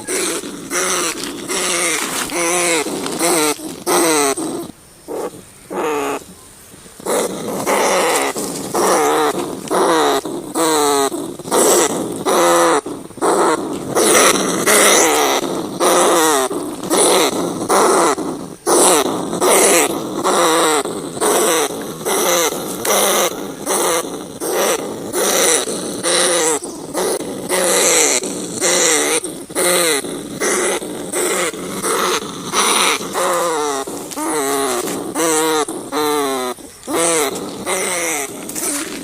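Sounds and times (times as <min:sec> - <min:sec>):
rat squeaks: 0:00.0 - 0:06.3, 0:07.0 - 0:39.0.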